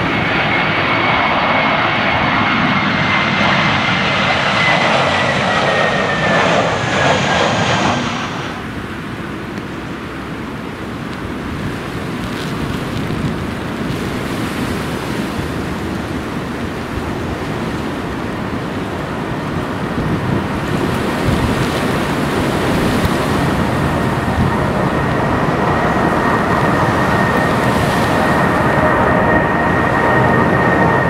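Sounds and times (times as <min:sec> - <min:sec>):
high engine whine: 0:00.0 - 0:31.0
jet engines roaring: 0:00.0 - 0:31.0.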